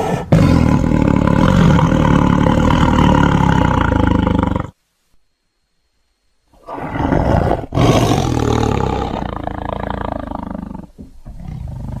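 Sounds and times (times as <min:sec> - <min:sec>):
big cat roaring and growling: 0:00.0 - 0:04.7, 0:06.6 - 0:12.0.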